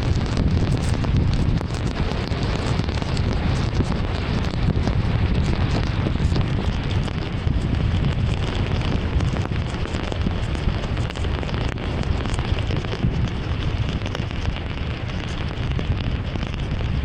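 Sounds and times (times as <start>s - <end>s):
heavy rain on a car: 0.0s - 17.0s.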